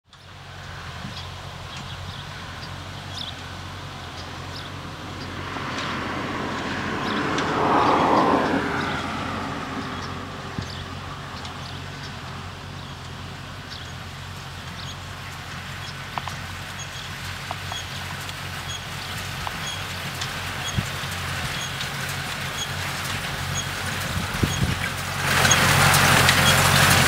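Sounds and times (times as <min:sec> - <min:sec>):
tractor running: 0:00.0 - 0:27.0.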